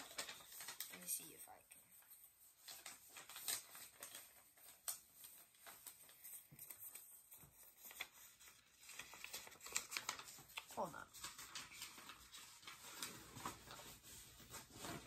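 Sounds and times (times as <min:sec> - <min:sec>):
light rustling of small objects: 0:00.0 - 0:15.0.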